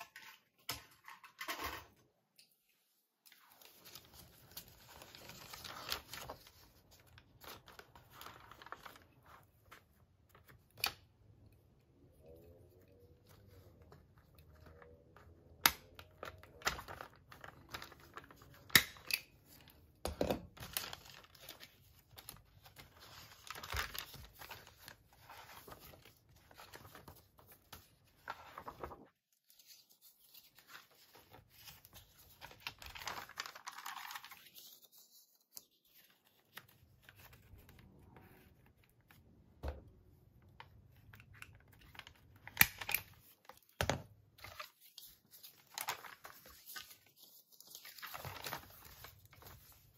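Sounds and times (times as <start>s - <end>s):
paper pages rustling: 3.2s - 10.9s, 13.0s - 18.7s, 20.6s - 39.2s, 40.6s - 49.9s.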